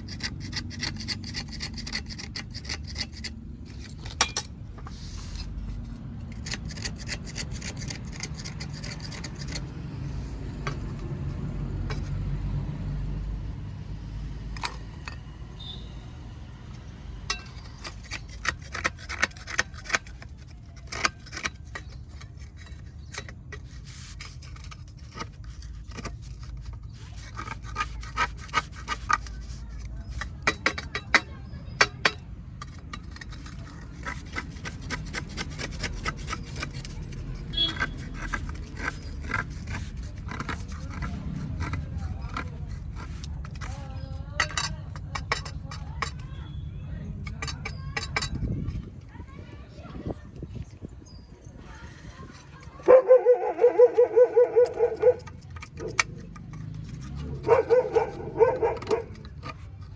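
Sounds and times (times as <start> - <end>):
clay scraping and rubbing: 0.0 - 13.2, 13.8 - 59.9.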